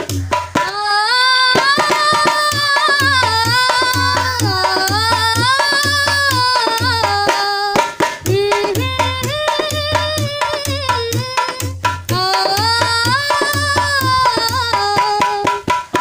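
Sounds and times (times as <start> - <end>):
dholak drum beating: 0.0 - 16.0.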